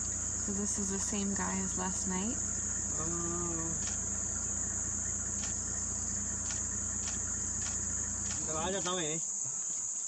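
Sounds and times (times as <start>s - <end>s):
low rumble: 0.0s - 8.6s
insects chorus: 0.0s - 10.0s.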